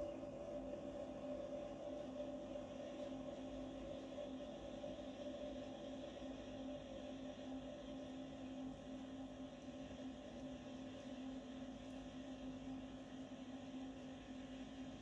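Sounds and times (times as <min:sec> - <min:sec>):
faint steady two-tone hum: 0:00.0 - 0:15.0.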